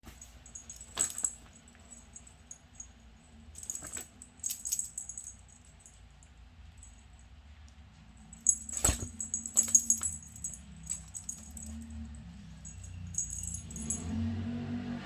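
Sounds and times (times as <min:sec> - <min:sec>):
collar bell jingling: 0:00.1 - 0:07.3, 0:08.2 - 0:14.2.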